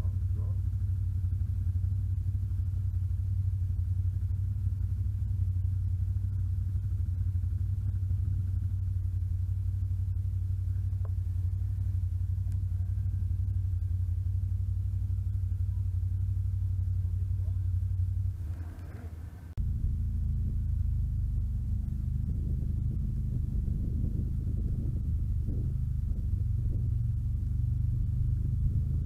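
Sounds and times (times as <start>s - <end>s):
atv engine droning: 0.0s - 29.0s.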